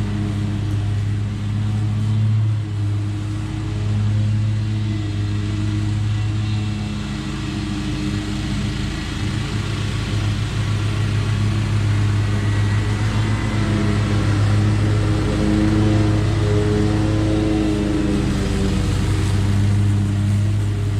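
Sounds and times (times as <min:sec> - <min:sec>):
lawn mower engine cutting grass: 0:00.0 - 0:20.9.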